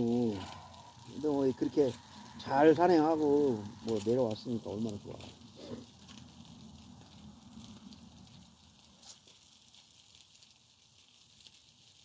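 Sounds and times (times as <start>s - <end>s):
campfire crackling and hissing: 0.0s - 12.0s
fire popping: 0.0s - 12.0s.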